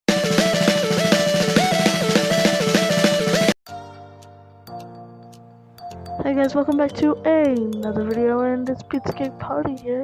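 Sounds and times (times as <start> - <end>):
chiptune music with drum beat: 0.1 - 4.9, 5.9 - 10.0.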